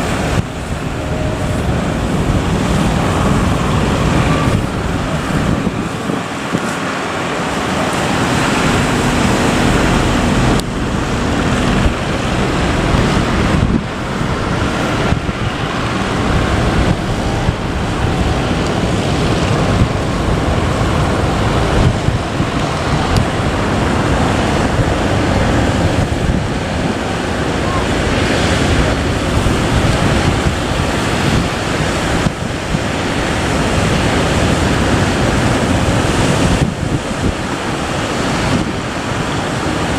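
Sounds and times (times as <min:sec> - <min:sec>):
ocean waves breaking: 0:00.0 - 0:39.9
wind buffeting microphone: 0:00.0 - 0:39.9.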